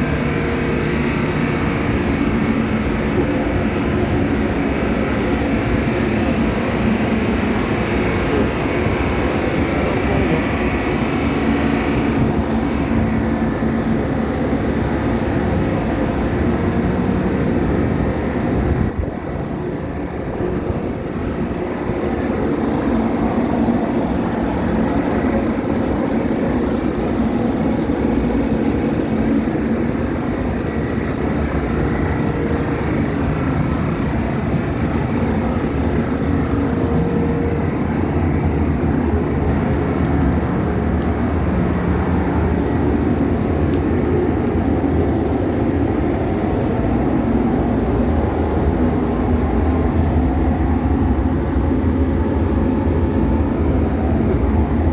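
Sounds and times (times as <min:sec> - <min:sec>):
ferry engines droning: 0:00.0 - 0:54.9.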